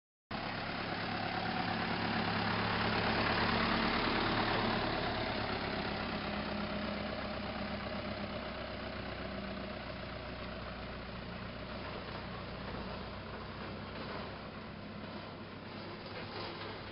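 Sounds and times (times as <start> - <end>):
truck engine running: 0.3 - 16.9.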